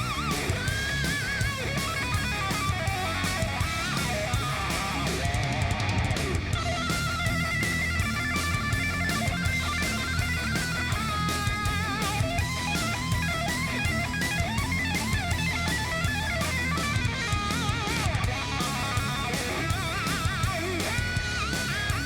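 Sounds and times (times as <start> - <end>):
rock music with electric guitar: 0.0 - 22.0.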